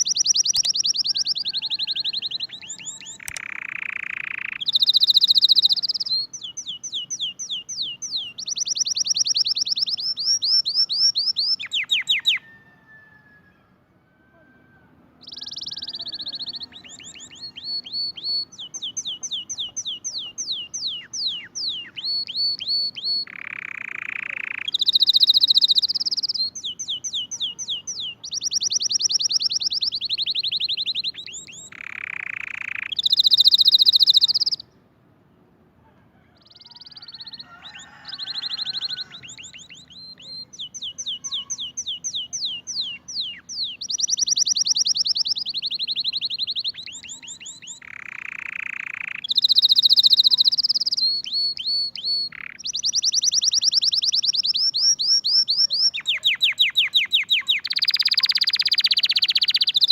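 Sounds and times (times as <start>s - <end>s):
songbird singing high notes: 0.0s - 12.6s, 15.2s - 34.7s, 36.4s - 59.9s.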